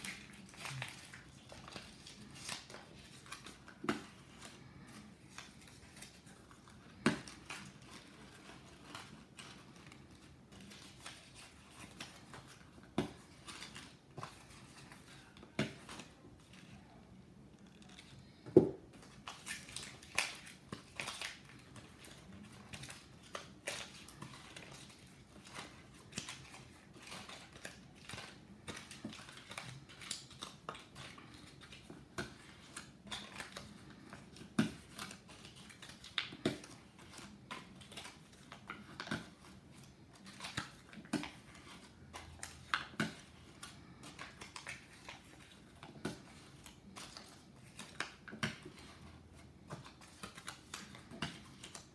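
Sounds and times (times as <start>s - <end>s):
paper rustling and crinkling: 0.0s - 51.9s.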